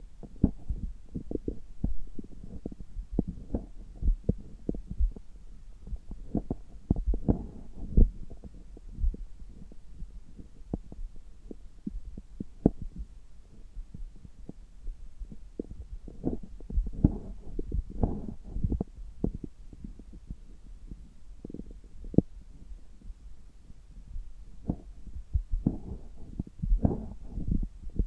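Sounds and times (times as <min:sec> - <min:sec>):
stomach gurgles and pops: 0:00.2 - 0:23.2, 0:24.0 - 0:28.0.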